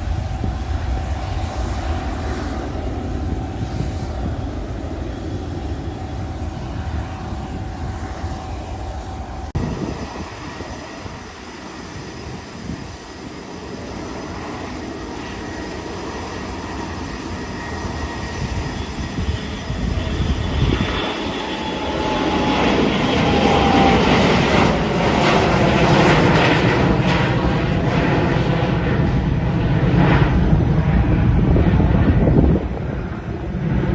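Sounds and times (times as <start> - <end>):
jet engines whining: 0.0 - 33.9.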